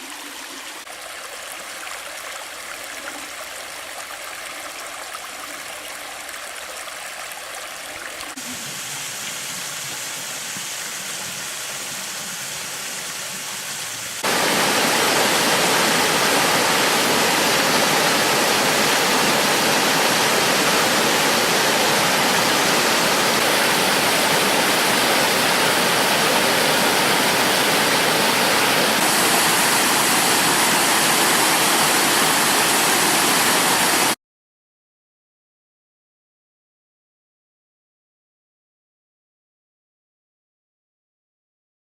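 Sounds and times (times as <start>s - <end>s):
creek and waterfall rushing: 0.0s - 34.2s.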